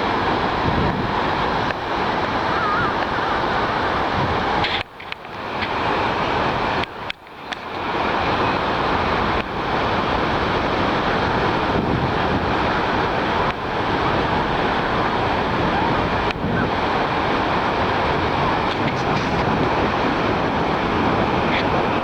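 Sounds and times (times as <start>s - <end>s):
jet airliner engines roaring: 0.0s - 22.0s.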